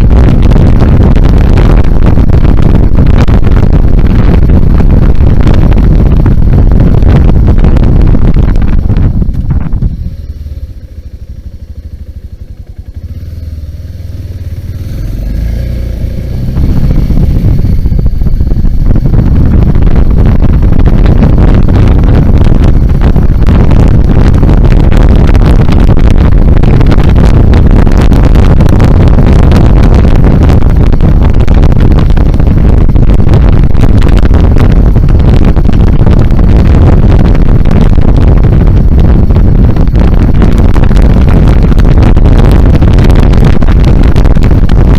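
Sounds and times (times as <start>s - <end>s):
motorcycle engine: 0.0s - 44.9s
wind noise on microphone: 0.0s - 44.9s.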